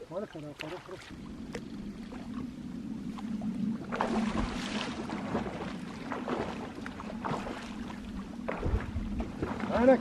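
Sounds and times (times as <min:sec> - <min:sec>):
steady low hum: 0:00.0 - 0:10.0
river water splashing: 0:00.1 - 0:10.0.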